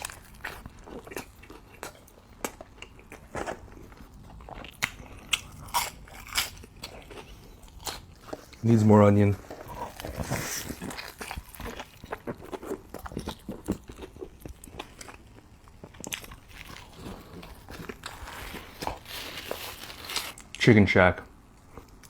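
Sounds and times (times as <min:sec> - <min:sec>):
close chewing with crunches: 0:00.0 - 0:20.6.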